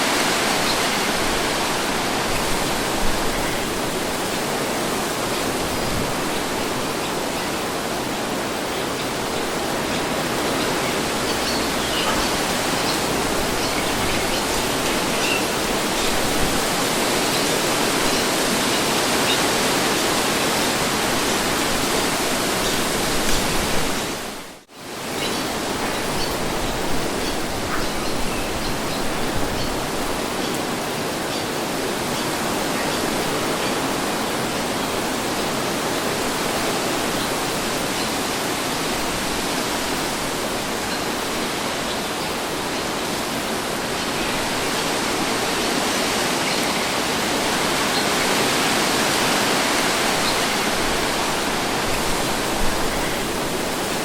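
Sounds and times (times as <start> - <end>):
wind blowing: 0.0 - 54.0.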